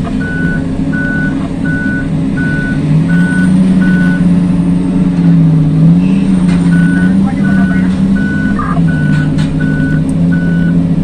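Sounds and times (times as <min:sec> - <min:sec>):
diesel truck engine running: 0:00.0 - 0:11.0
reversing alarm beeping: 0:00.1 - 0:04.3, 0:06.0 - 0:10.8.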